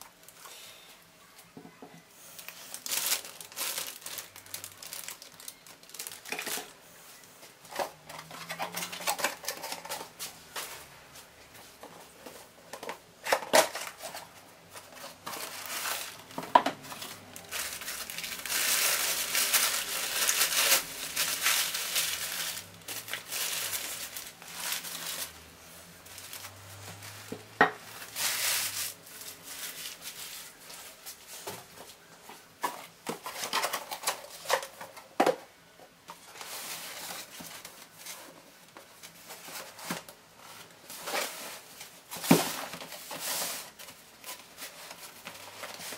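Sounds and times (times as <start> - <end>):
cardboard packaging rustling: 2.3 - 6.8, 7.4 - 35.4, 36.1 - 45.9.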